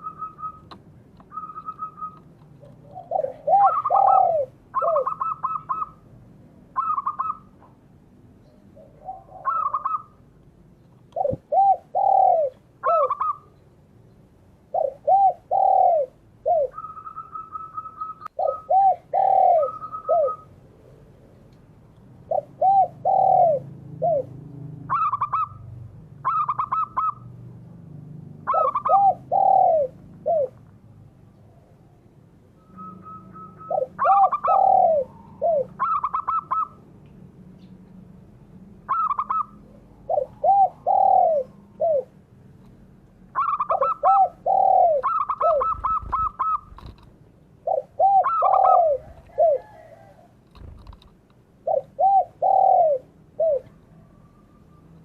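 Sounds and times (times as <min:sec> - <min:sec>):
doves cooing: 0:00.0 - 0:07.8, 0:08.7 - 0:10.3, 0:11.0 - 0:13.6, 0:14.6 - 0:21.1, 0:22.2 - 0:27.4, 0:28.4 - 0:30.6, 0:32.6 - 0:36.9, 0:38.9 - 0:42.2, 0:43.3 - 0:55.0.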